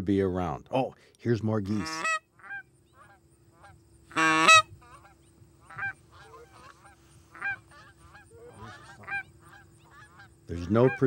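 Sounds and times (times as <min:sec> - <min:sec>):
geese honking: 0:01.7 - 0:11.0.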